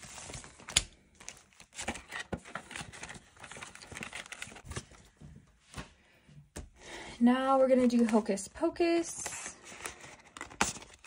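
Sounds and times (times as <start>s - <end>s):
banknotes and plastic rustling: 0.0s - 5.3s, 7.4s - 11.0s.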